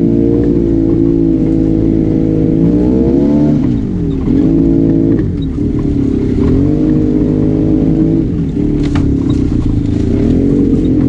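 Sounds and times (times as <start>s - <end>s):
vehicle engine under throttle: 0.0s - 11.0s.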